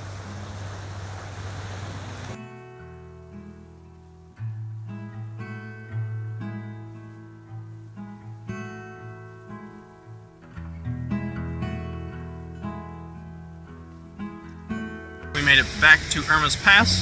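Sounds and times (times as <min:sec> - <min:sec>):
acoustic guitar playing: 0:02.3 - 0:17.0.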